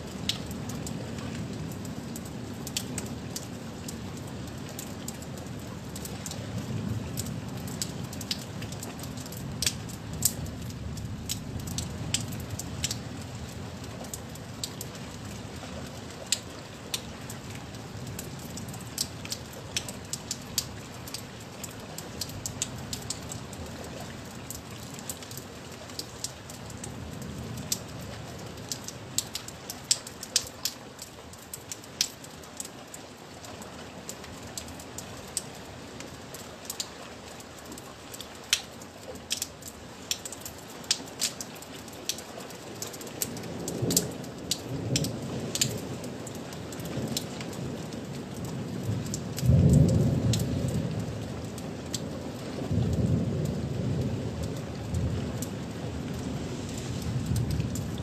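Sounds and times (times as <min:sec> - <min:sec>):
rain falling: 0:00.0 - 0:58.0
raindrops ticking close by: 0:00.0 - 0:58.0.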